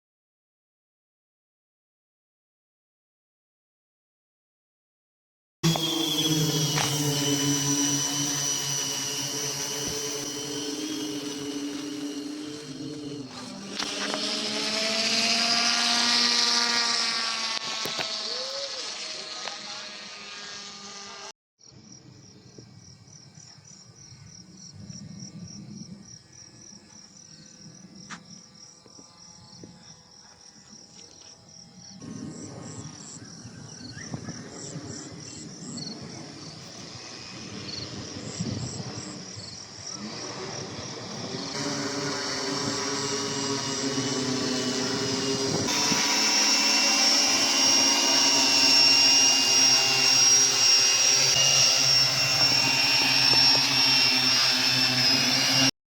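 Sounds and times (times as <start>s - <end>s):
model plane motors whining: 5.6s - 21.3s, 24.2s - 55.7s.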